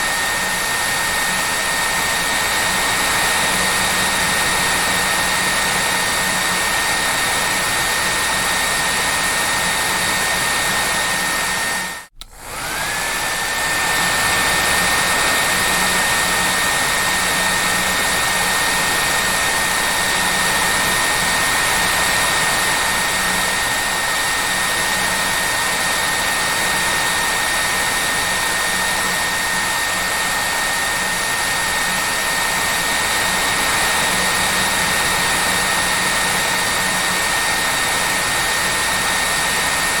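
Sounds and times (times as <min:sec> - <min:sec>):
hair dryer blowing: 0:00.0 - 0:40.0.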